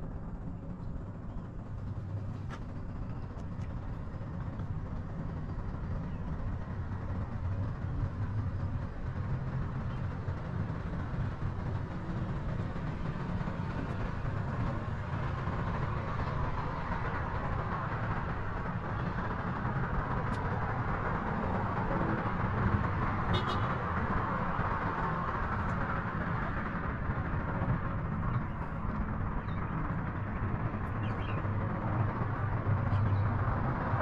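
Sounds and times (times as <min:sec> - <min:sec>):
gondola cabin rumble and hiss: 0:00.0 - 0:34.0.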